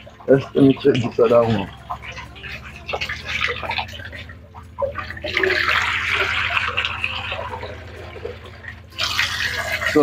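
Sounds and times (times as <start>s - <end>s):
water pouring into plastic bowl: 0.0s - 10.0s.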